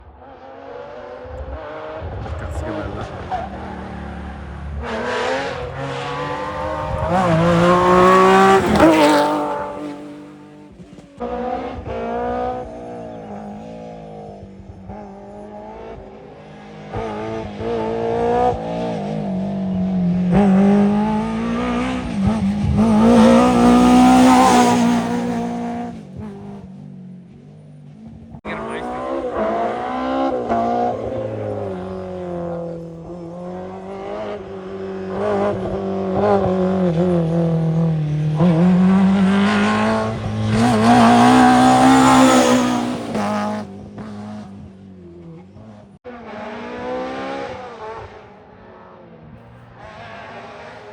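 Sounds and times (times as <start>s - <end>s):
rally car engines at full throttle: 0.0s - 50.9s.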